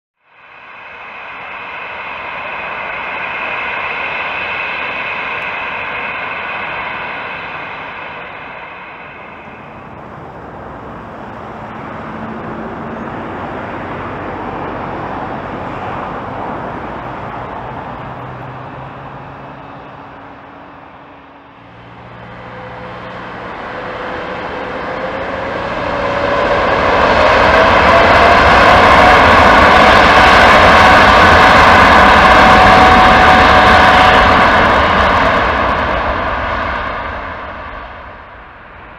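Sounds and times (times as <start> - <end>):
jet engines whining and roaring: 0.2 - 38.9.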